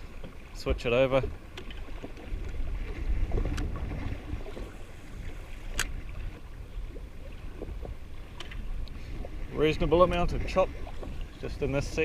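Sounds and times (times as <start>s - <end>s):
water slapping against hull: 0.0s - 12.0s
wind rumble on microphone: 0.0s - 12.0s.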